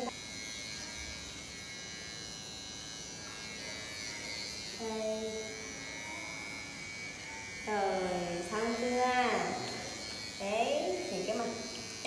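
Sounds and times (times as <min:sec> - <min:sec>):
electric hair trimmer buzzing: 0:00.0 - 0:12.0.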